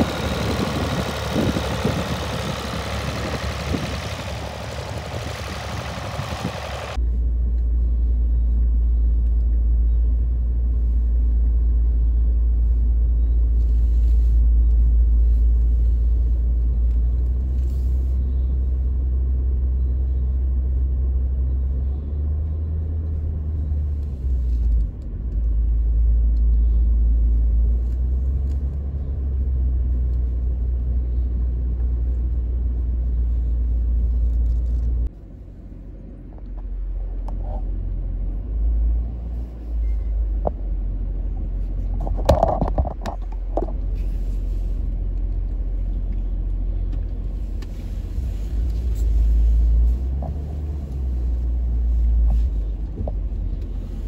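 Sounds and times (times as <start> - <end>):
car driving rumble from inside: 0.0 - 54.0.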